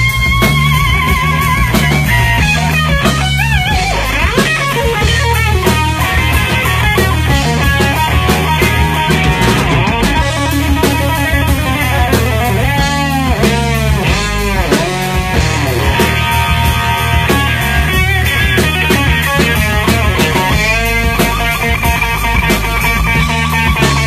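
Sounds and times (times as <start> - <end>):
blues-rock band playing: 0.0 - 24.0
electric guitar lead: 0.0 - 24.0.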